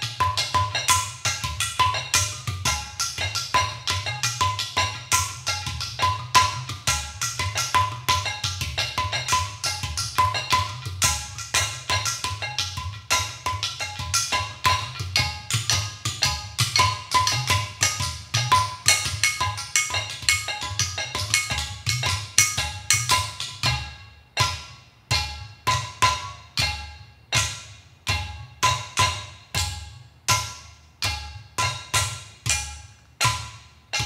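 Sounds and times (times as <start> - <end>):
clay pot drums knocking: 0.0 - 34.0.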